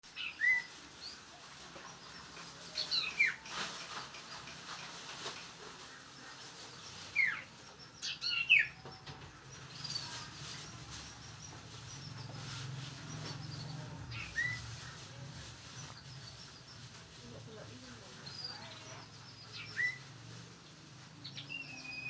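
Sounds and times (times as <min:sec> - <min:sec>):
songbird chirping: 0:00.1 - 0:22.0.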